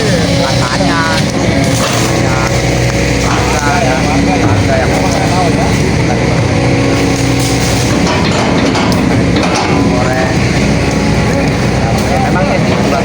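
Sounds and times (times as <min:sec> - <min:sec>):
excavator diesel engine running: 0:00.0 - 0:13.0
hydraulic whine: 0:00.0 - 0:13.0.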